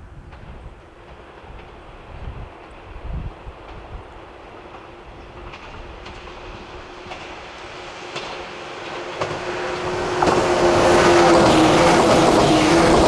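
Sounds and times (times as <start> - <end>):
train hum: 0.0 - 13.0
train wheels clicking over joints: 0.3 - 13.0.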